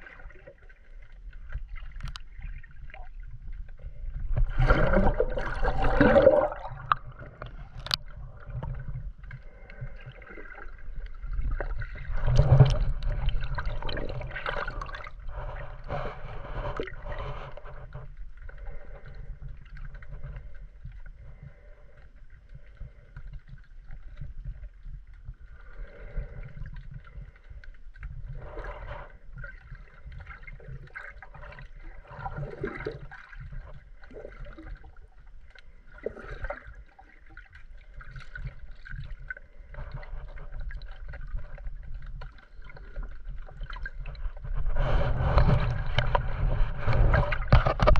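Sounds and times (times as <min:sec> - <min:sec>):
muffled underwater water sloshing: 0:00.0 - 0:47.9.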